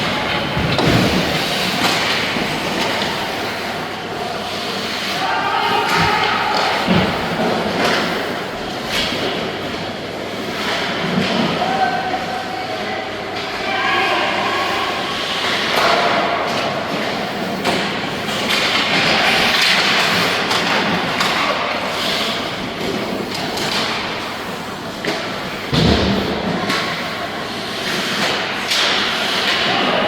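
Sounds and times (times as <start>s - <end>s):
skates scraping on ice: 0.0s - 11.7s, 14.7s - 30.0s
hockey sticks and puck clacking: 0.0s - 11.9s, 15.1s - 30.0s.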